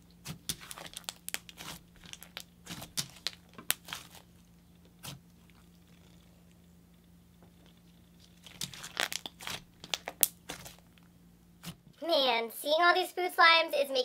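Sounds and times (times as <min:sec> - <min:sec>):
slime crackling and popping: 0:00.0 - 0:11.8
faint steady hum: 0:00.0 - 0:14.0.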